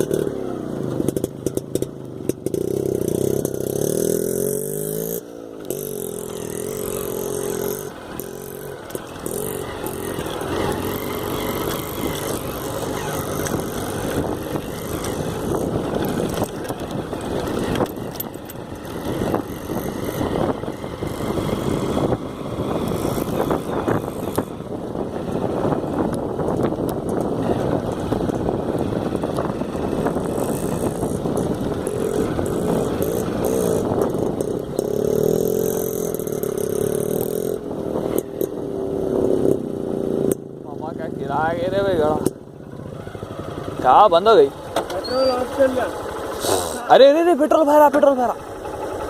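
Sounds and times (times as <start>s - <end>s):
motorcycle engine: 0.0s - 49.0s
rough noisy rumble with jolts: 5.6s - 49.0s.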